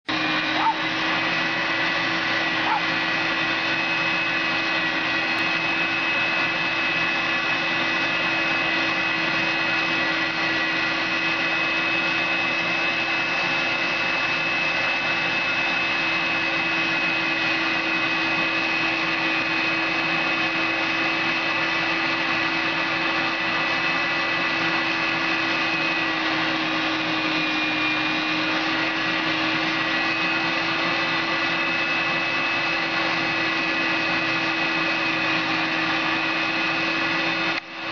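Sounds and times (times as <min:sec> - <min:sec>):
extractor motor whining hum: 0:00.0 - 0:37.9.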